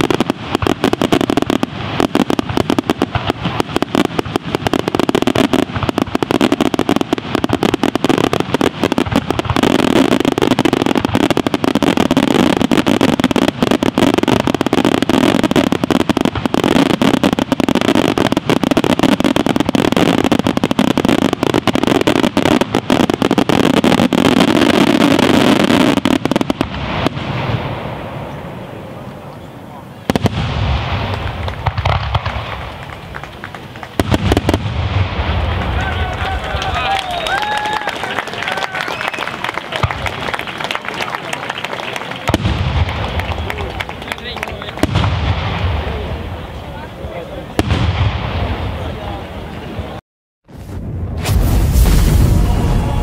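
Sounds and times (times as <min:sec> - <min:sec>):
fireworks bangs: 0:00.0 - 0:53.0.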